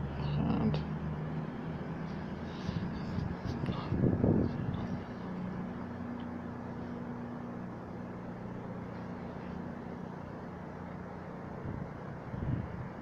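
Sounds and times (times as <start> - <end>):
train diesel engines humming: 0.0 - 13.0.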